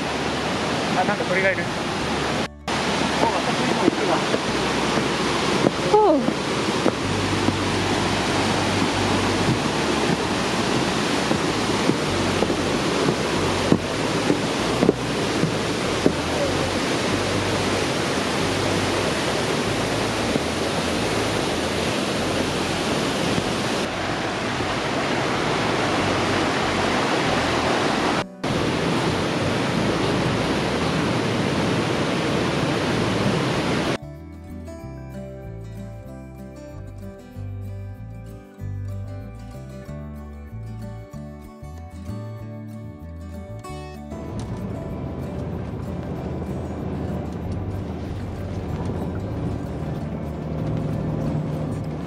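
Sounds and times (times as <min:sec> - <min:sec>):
river rushing over rocks: 0:00.0 - 0:34.0, 0:44.2 - 0:52.0.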